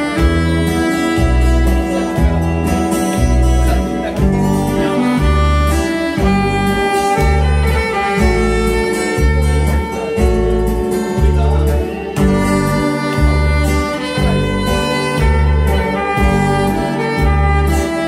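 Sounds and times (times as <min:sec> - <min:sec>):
acoustic guitar: 0:00.0 - 0:18.0
alto saxophone melody: 0:00.0 - 0:18.0.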